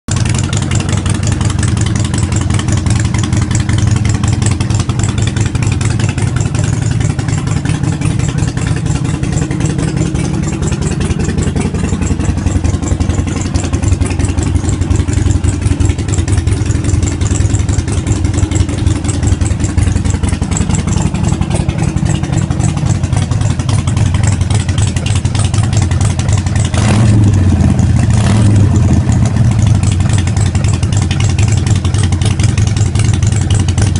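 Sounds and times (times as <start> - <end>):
motorcycle engine idling: 0.1 - 33.9
motorcycle throttle blips: 0.1 - 33.9.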